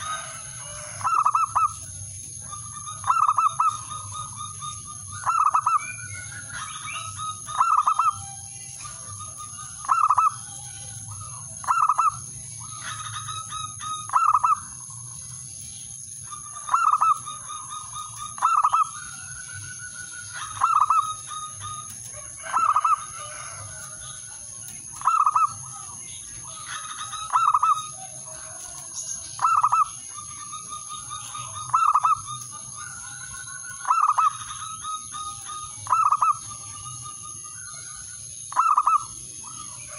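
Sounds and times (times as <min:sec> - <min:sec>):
dove cooing: 0:00.0 - 0:15.4, 0:16.2 - 0:39.9
steady high-pitched whine: 0:00.0 - 0:39.9.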